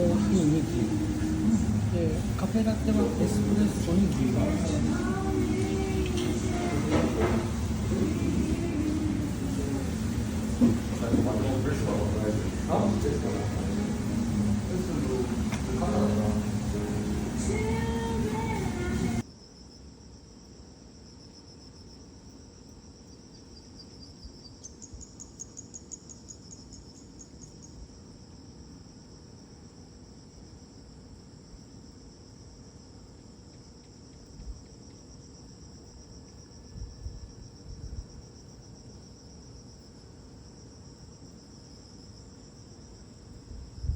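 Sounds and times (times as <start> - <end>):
insect pulsed trill: 0.0 - 43.9
insects droning: 0.0 - 43.9.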